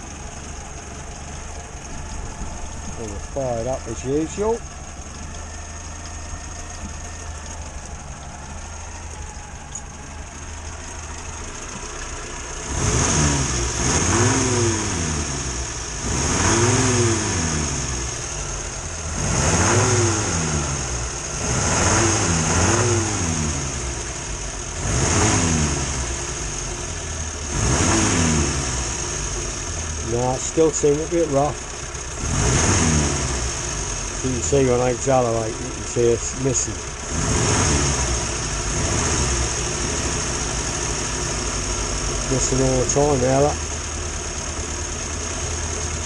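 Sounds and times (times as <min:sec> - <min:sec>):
car engine idling and revving: 0:00.0 - 0:46.0
engine misfiring: 0:00.0 - 0:46.0.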